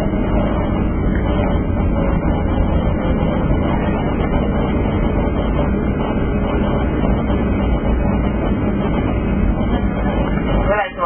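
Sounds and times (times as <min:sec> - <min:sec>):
jet engine noise in cabin: 0:00.0 - 0:11.0
wheels rumbling on runway: 0:00.0 - 0:11.0.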